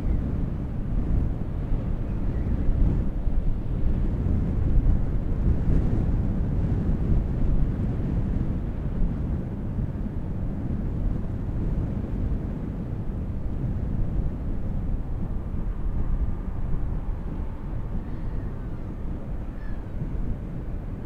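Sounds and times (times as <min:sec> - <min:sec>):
ship engine low rumble: 0:00.0 - 0:21.0
wind buffeting microphone: 0:00.0 - 0:21.0.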